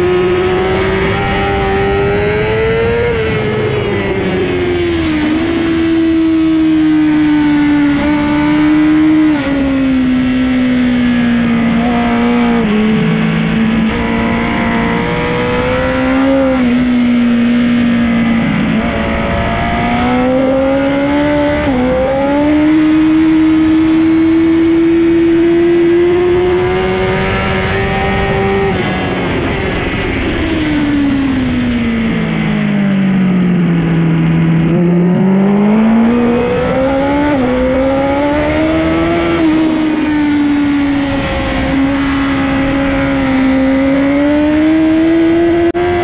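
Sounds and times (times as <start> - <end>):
motorcycle engine at racing speed: 0.0 - 46.0.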